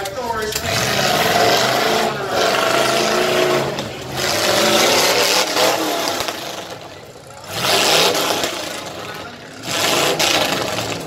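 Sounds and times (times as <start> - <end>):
car and truck engines revving: 0.0 - 11.0.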